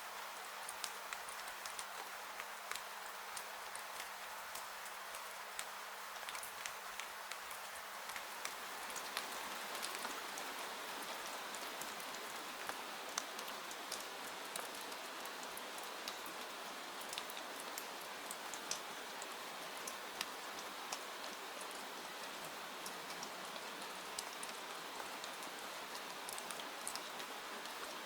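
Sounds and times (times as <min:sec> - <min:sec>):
steady rain falling: 0:00.0 - 0:28.0
sharp clicks of raindrops: 0:00.2 - 0:28.0.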